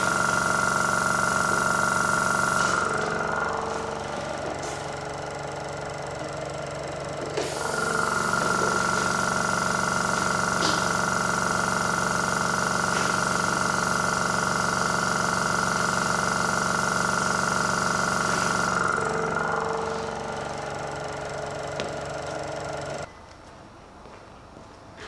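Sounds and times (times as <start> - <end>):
power tool whining: 0.0 - 23.1.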